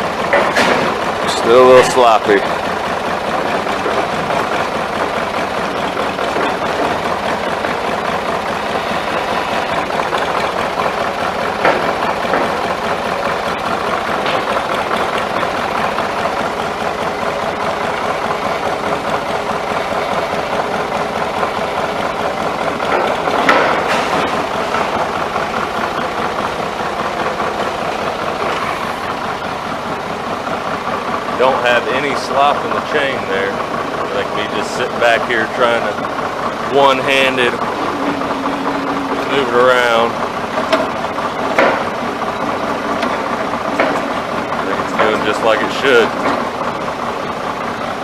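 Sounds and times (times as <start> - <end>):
backhoe clunks: 0.0 - 48.0
backhoe engine running: 0.0 - 48.0.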